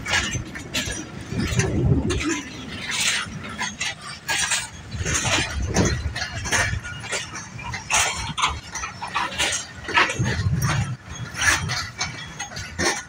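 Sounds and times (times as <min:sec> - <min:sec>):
low train rumble: 0:00.0 - 0:13.0
train wheels clanking over rail joints: 0:00.0 - 0:13.0.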